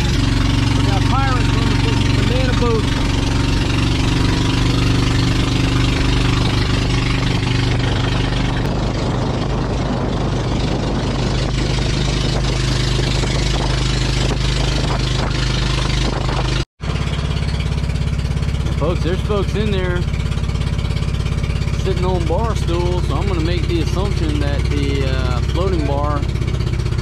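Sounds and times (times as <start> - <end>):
wind buffeting microphone: 0.0 - 16.6, 17.9 - 27.0
boat engine running: 0.0 - 27.0.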